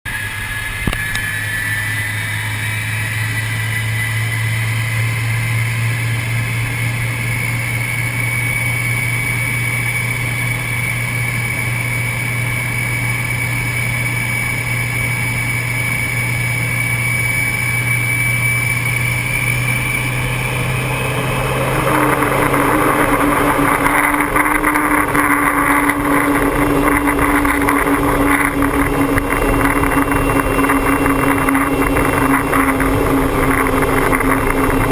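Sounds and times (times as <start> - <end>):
jet engines droning and whining: 0.1 - 34.9
jet engines roaring for take-off: 0.1 - 34.9.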